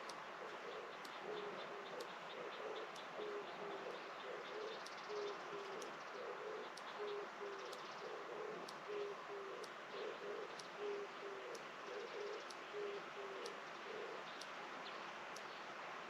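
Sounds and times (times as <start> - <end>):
dove cooing: 0.0 - 14.3
faint rapid high ticking: 0.0 - 14.6
steady outdoor hiss: 0.0 - 16.0.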